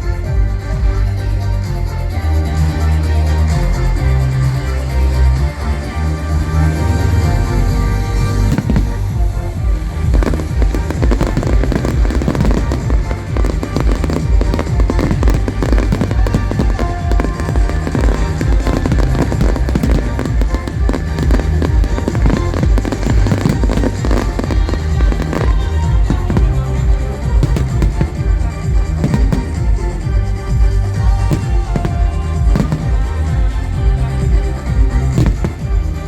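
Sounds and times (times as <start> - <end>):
loud music with heavy bass: 0.0 - 36.0
fireworks bangs and crackles: 6.5 - 36.0.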